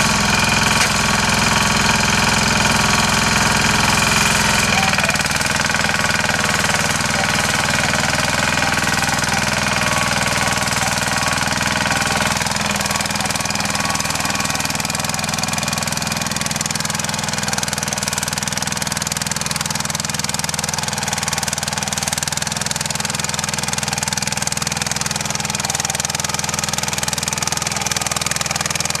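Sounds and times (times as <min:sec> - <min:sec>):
rotary tiller engine running: 0:00.0 - 0:29.0.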